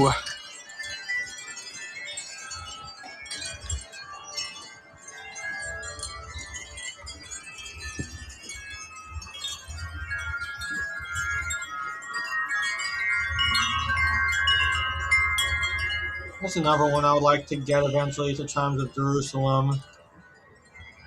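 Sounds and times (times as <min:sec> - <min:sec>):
wind chime ringing: 0:00.0 - 0:21.0
wind rumbling on microphone: 0:00.0 - 0:21.0.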